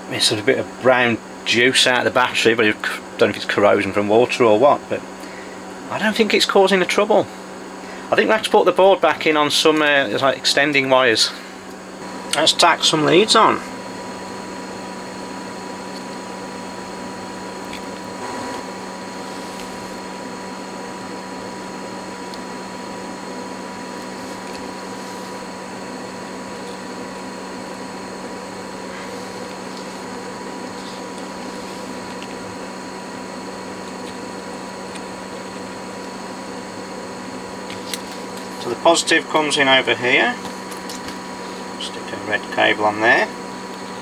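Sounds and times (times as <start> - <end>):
machine hum and hiss: 0.0 - 44.0.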